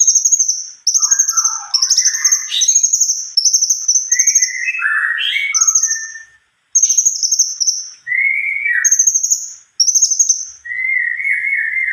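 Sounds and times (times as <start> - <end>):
songbird trilling and whistling: 0.0 - 11.9.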